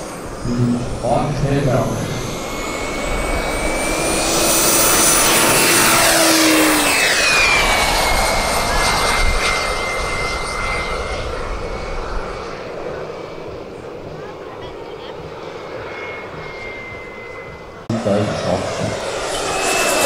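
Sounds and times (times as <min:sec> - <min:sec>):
model turboprop plane engine: 0:00.0 - 0:20.0.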